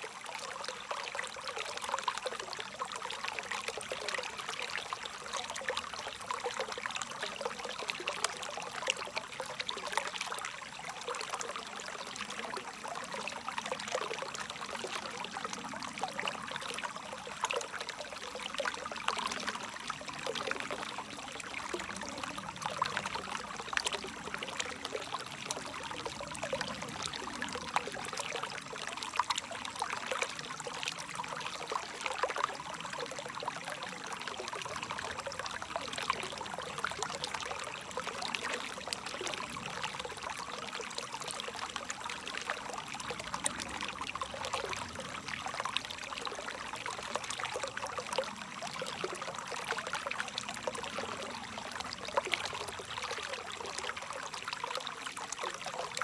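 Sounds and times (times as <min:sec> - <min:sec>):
stream water trickling and splashing: 0:00.0 - 0:56.0.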